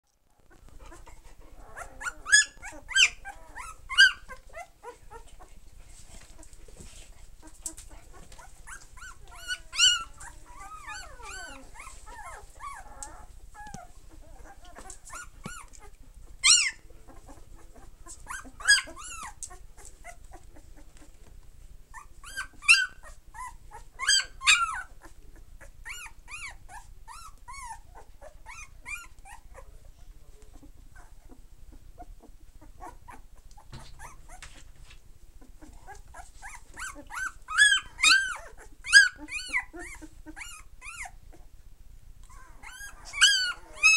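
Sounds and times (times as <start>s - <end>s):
puppies whining softly: 0.2s - 43.9s
puppies whimpering and squealing: 0.4s - 5.5s, 6.1s - 21.2s, 21.9s - 34.7s, 35.4s - 41.6s, 42.2s - 43.9s.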